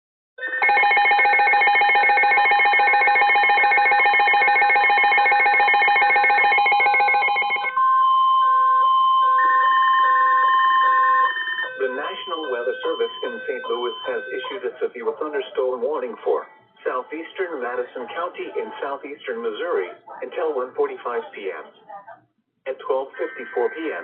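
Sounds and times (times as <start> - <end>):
steady alarm tone: 0.4 - 19.6, 22.9 - 24.0.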